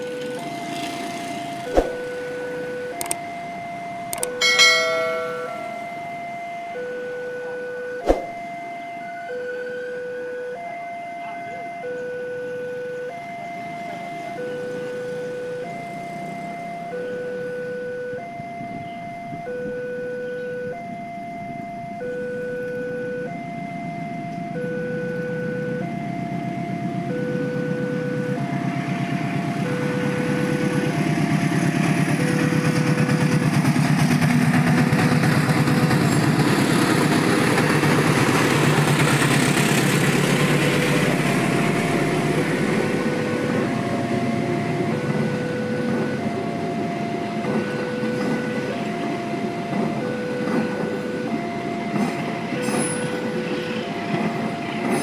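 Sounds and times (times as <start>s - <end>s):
level crossing two-tone alarm: 0.0s - 55.0s
passing train rumble: 0.0s - 55.0s.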